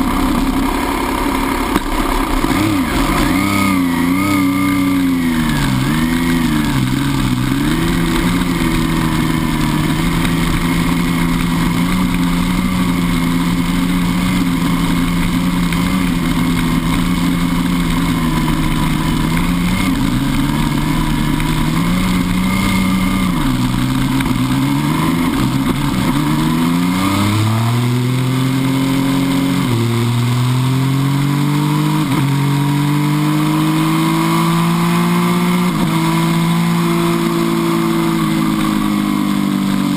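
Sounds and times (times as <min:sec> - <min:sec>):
motorcycle engine accelerating: 0:00.0 - 0:39.9
motorcycle upshifts: 0:00.0 - 0:39.9.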